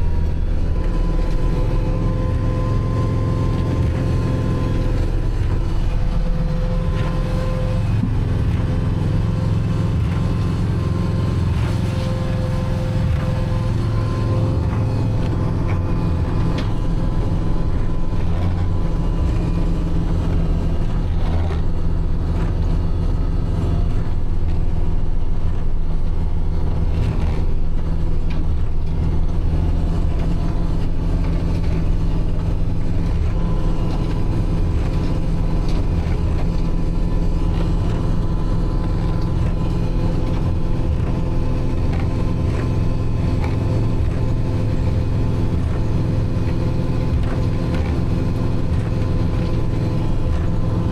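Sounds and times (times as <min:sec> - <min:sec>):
snowblower clearing snow: 0:00.0 - 0:50.9
tractor diesel engine running: 0:00.0 - 0:50.9.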